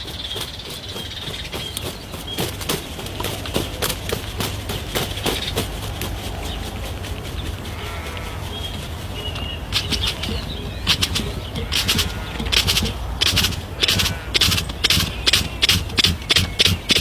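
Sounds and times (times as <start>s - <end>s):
bird wings flapping: 0.0s - 17.0s
steady low rumble: 0.0s - 17.0s.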